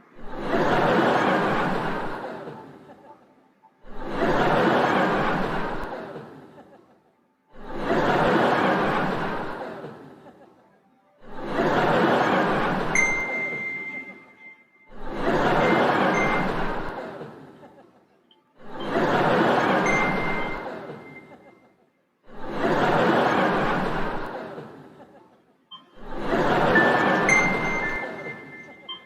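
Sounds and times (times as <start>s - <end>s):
laughter sound effect: 0.2s - 14.2s, 14.9s - 21.7s, 22.3s - 29.0s.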